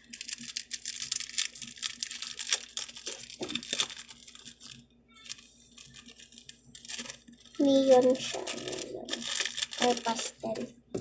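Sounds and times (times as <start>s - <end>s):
plastic container rattling: 0.0s - 11.0s.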